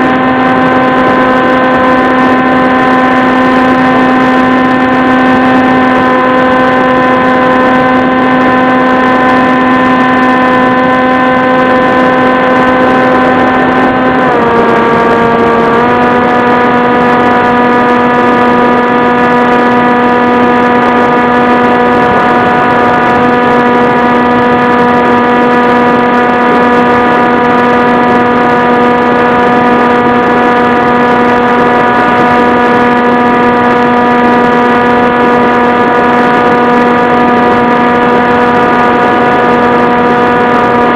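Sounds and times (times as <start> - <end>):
model airplane propeller drone: 0.0 - 40.9.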